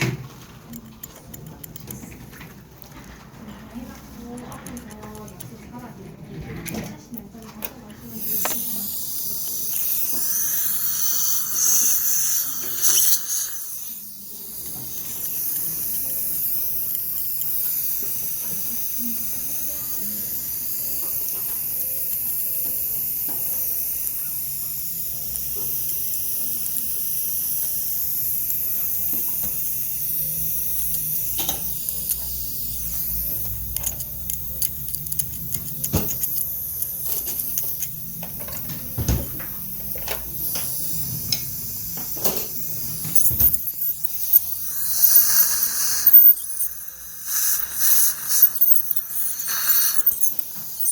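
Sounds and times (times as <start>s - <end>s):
dental scaler hissing: 7.8s - 50.9s.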